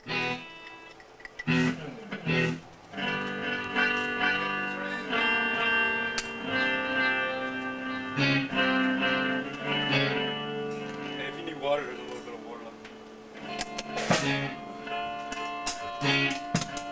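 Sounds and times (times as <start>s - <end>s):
electric guitar chords ringing: 0.0s - 16.9s.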